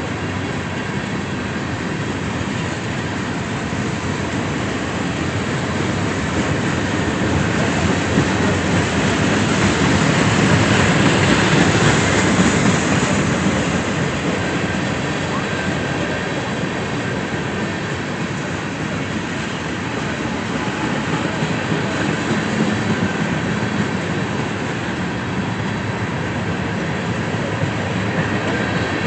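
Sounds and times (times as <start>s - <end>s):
train cars rolling on rails: 0.0s - 29.0s.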